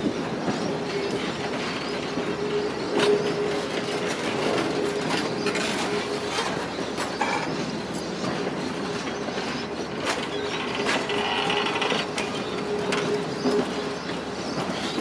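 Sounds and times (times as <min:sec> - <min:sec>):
train rolling on rails: 0:00.0 - 0:15.0
wheels clicking over rail joints: 0:00.0 - 0:15.0.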